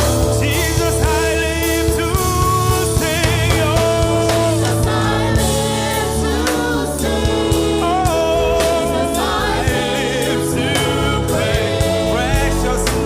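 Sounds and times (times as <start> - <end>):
band with bass and drums: 0.0 - 13.0
voices singing with vibrato: 0.0 - 13.0.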